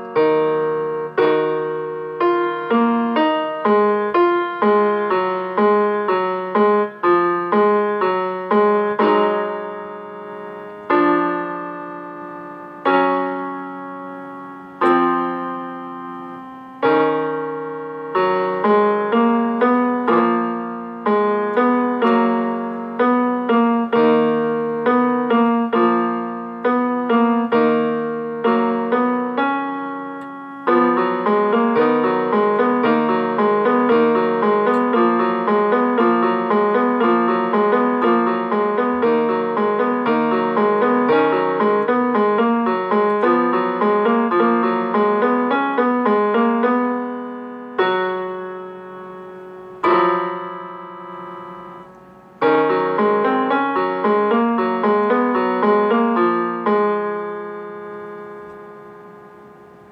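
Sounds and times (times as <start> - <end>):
solo piano music: 0.0 - 59.9.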